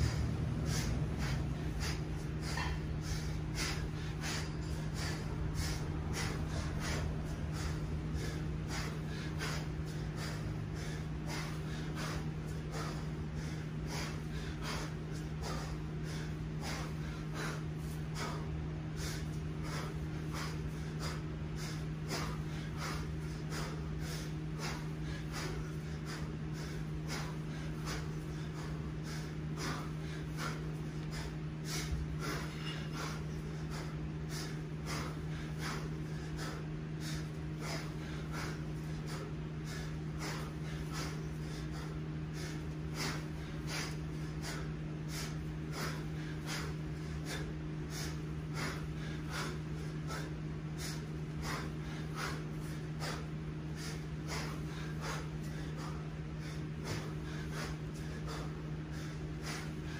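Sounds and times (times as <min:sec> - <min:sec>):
man breathing hard: 0:00.0 - 0:59.9
steady low hum: 0:00.0 - 0:59.9.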